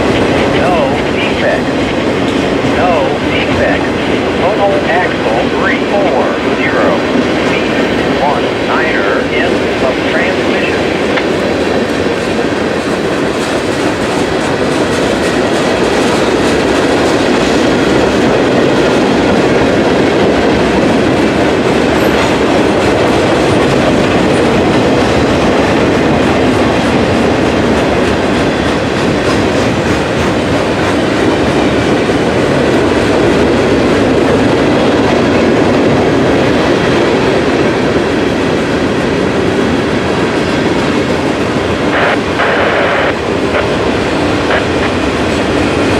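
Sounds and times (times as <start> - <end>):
freight train wheels on rails: 0.0 - 45.9.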